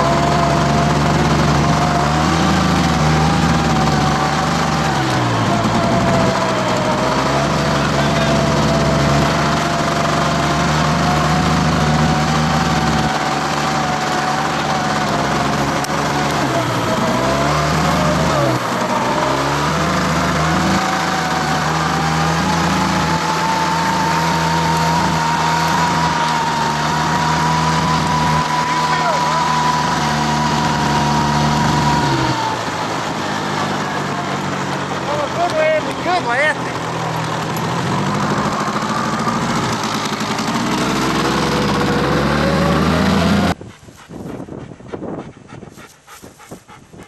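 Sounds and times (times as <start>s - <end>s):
vehicle engine running: 0.0s - 47.0s
wind and road noise: 0.0s - 47.0s.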